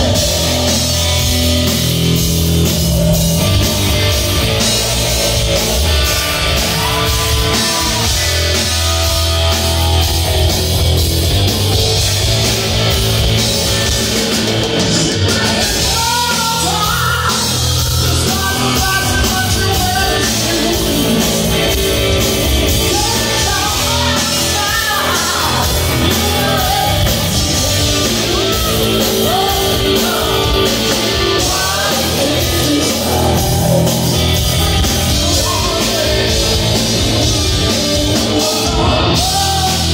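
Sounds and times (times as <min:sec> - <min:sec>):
hard rock band playing live: 0:00.0 - 0:39.9.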